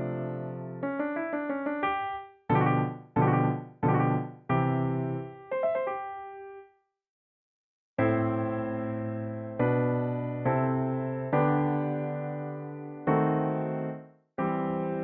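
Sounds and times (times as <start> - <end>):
piano playing: 0.0 - 6.7, 8.0 - 15.0.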